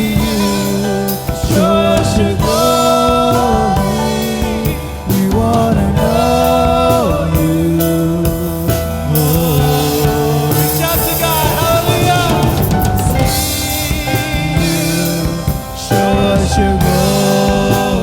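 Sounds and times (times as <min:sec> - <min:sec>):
worship band playing: 0:00.0 - 0:18.0.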